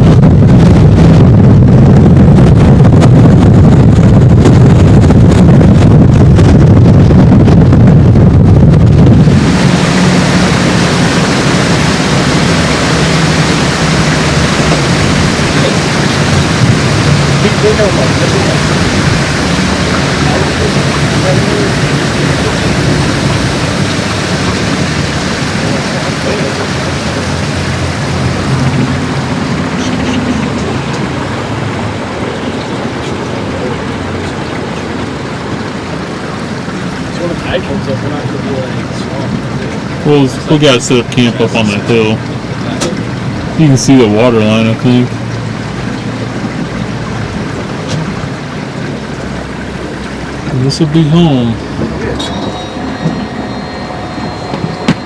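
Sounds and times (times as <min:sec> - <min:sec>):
boat engine droning: 0:00.0 - 0:55.0
rushing water: 0:00.0 - 0:55.0
rushing wind: 0:00.0 - 0:55.0.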